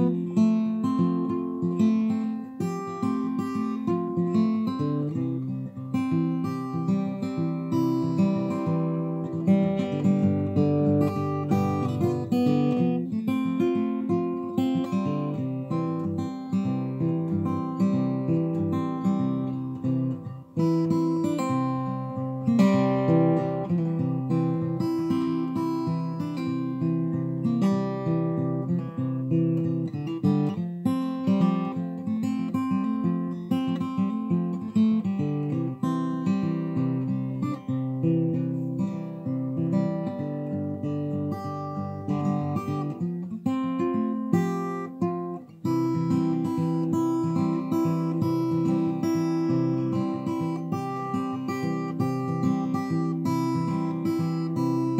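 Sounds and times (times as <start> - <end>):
acoustic guitar riff: 0.0 - 54.9.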